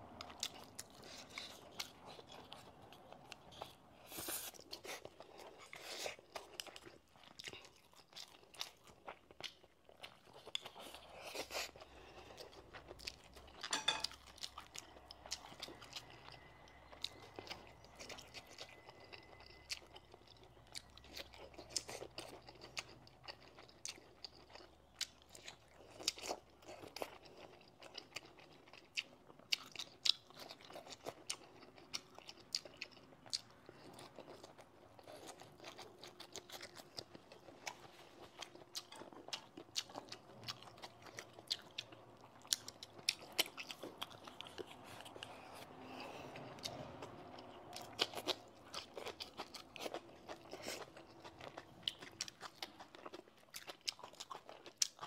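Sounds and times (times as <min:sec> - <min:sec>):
chewing crunchy vegetables: 0:00.0 - 0:55.0.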